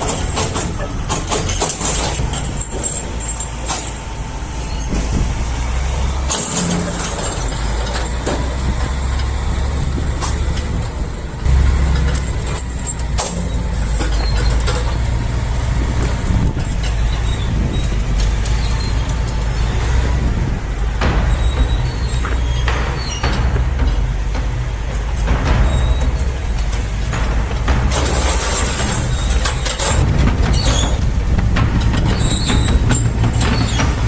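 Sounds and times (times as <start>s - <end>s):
diesel machinery rumbling: 0.0s - 34.0s
metal knocks and clanks: 0.0s - 34.0s.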